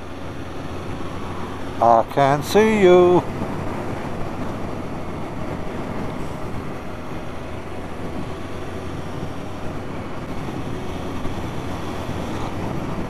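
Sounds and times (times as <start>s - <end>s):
motorcycle engine hum: 0.0s - 13.0s
wind rush on microphone: 0.0s - 13.0s.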